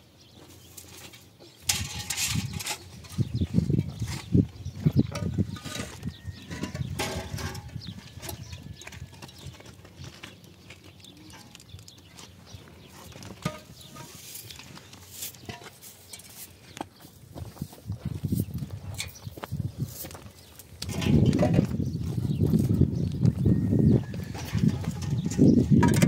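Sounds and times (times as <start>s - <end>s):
concrete blocks knocking and scraping: 0.4s - 17.6s, 18.7s - 21.8s, 23.8s - 26.0s.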